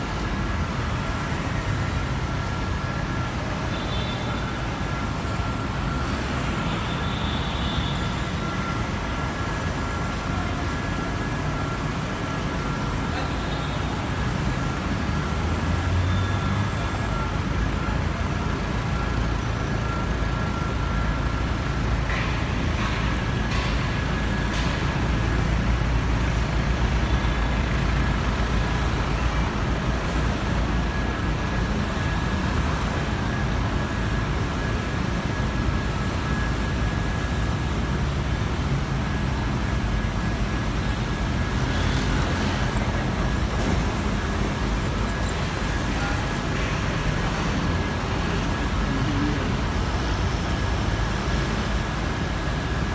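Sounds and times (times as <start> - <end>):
traffic rumble: 0.0 - 52.9.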